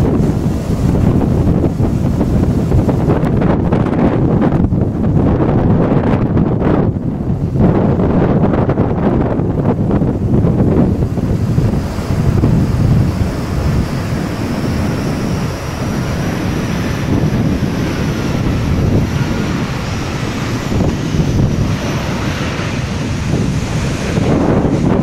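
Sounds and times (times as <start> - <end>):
gusty wind buffeting microphone: 0.0 - 25.0
jet engines whining: 0.0 - 25.0.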